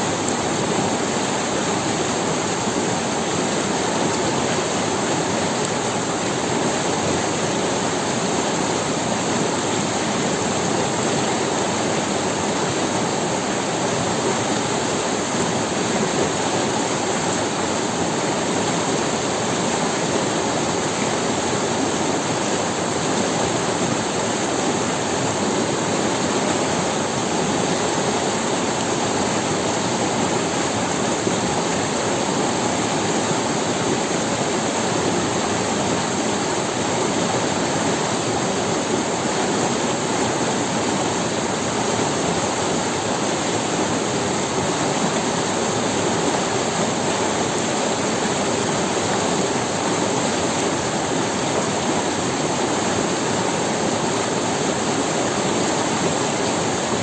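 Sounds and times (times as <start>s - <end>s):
river water running over stones: 0.0s - 57.0s.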